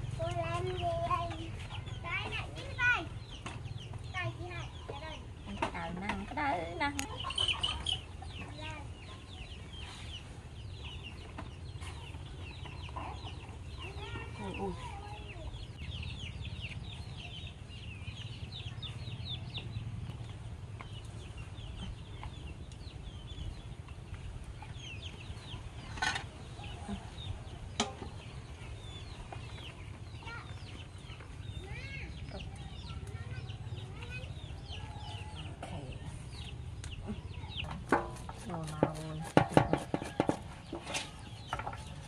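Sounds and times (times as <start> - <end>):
chickens clucking and peeping: 0.0 - 42.0.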